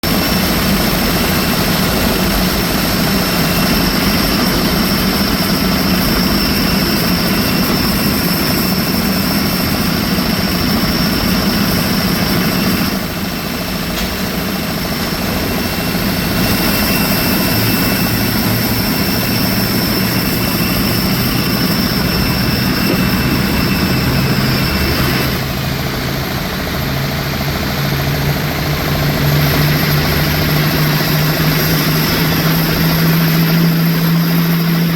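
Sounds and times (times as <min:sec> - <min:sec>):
high turbine whine: 0:00.0 - 0:34.9
jet turbine rumble: 0:00.0 - 0:34.9
low engine drone: 0:00.0 - 0:34.9.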